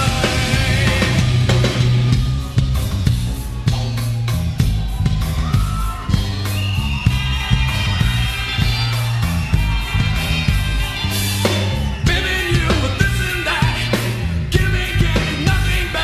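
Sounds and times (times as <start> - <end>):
live metal band playing: 0.0 - 16.0.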